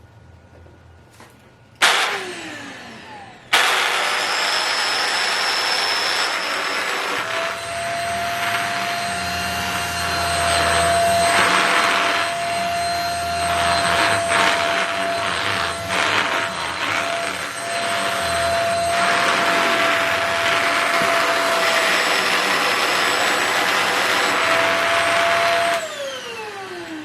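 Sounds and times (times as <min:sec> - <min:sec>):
vacuum cleaner motor running: 0:01.8 - 0:27.0.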